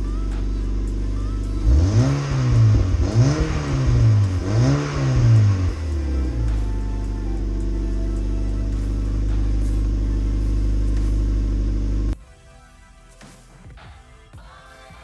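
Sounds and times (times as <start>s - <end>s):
car engine idling and revving: 0.0s - 12.2s.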